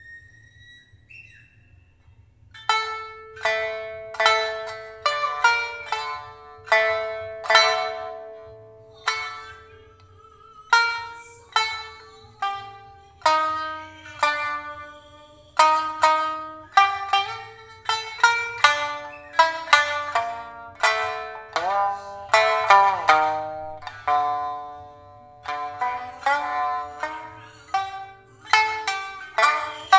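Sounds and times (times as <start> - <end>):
shamisen plucked melody: 2.6 - 29.9.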